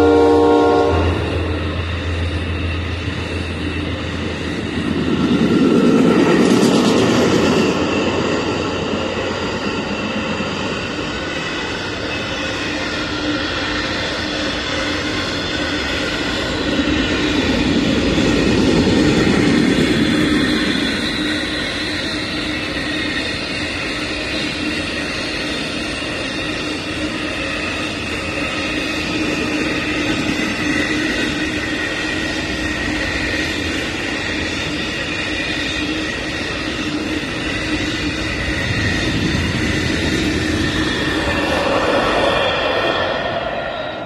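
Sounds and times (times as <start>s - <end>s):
steady whine: 0.0s - 44.0s
train cars rolling: 0.0s - 44.0s.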